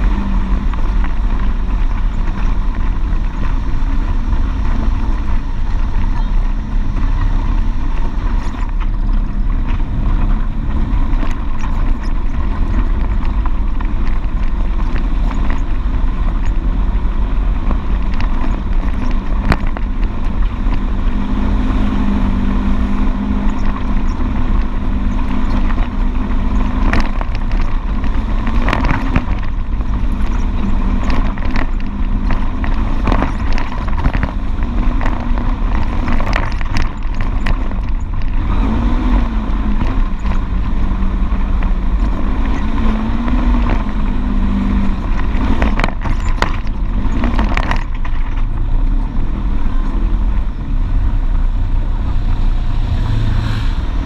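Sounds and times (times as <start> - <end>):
knocks and rattles of vehicle: 0.0 - 54.0
off-road vehicle engine running: 0.0 - 54.0.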